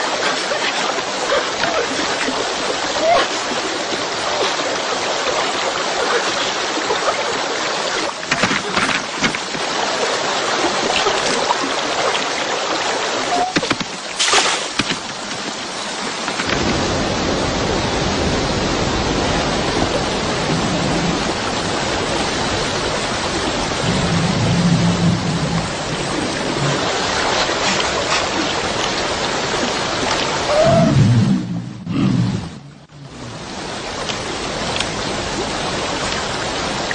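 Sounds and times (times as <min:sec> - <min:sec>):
river water rushing over rocks: 0:00.0 - 0:31.0, 0:32.7 - 0:36.9.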